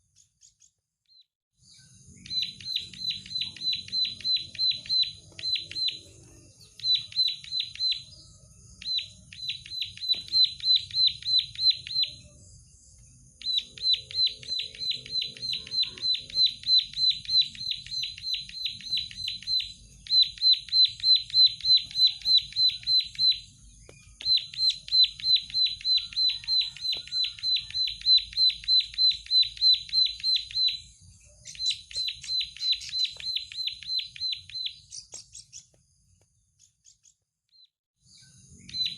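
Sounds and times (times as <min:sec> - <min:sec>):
bird singing rapid high notes: 0:01.8 - 0:12.4, 0:13.4 - 0:35.7.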